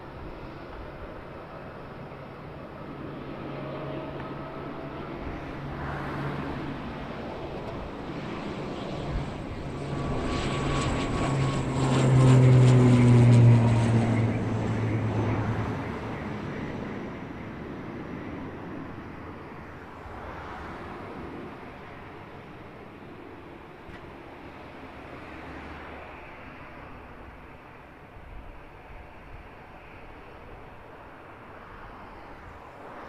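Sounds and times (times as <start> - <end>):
turboprop airplane passing by: 0.0 - 33.0.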